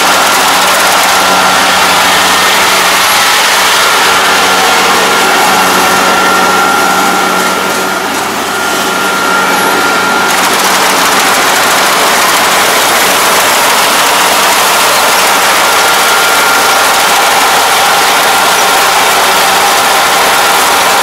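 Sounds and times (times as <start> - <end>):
combine harvester droning: 0.0 - 21.0
high machinery whine: 0.0 - 21.0.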